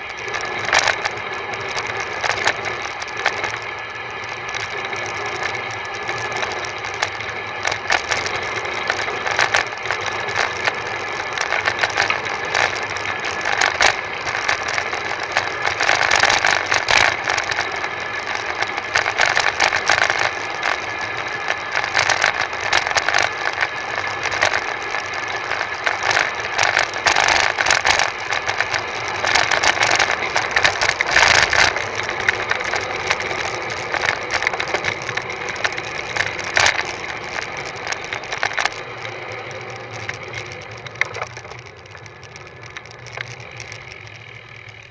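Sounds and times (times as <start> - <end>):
bicycle road noise rattling: 0.0 - 44.9.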